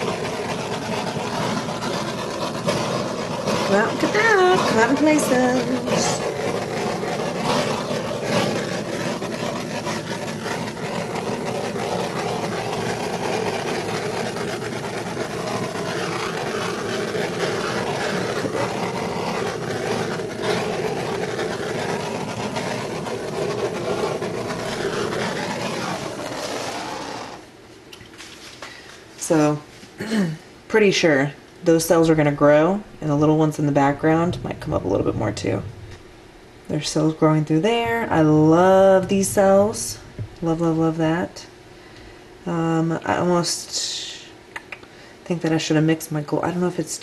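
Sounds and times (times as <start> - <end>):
butane torch hissing: 0.0 - 27.6, 31.8 - 42.5.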